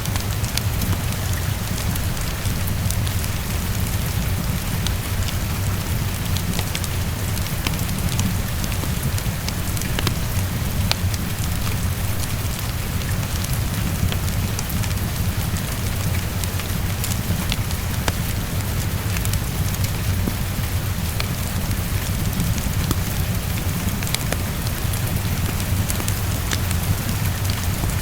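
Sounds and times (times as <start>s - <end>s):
heavy rain on a window: 0.0s - 28.0s
wood fire crackling: 0.0s - 28.0s.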